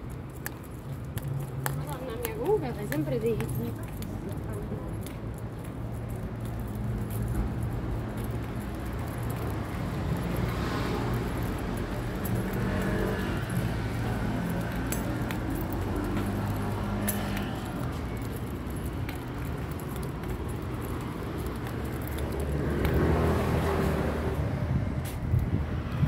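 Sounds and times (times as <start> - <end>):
steady low traffic rumble: 0.0 - 26.0.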